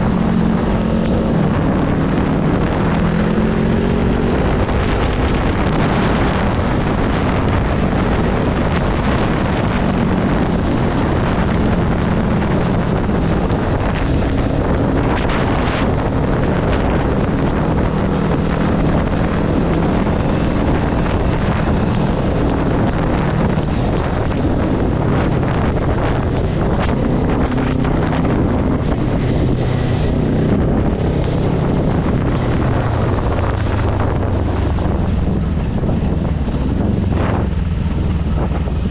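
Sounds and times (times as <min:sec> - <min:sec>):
motorcycle engine humming: 0:00.0 - 0:38.9
wind rushing over microphone: 0:00.0 - 0:38.9.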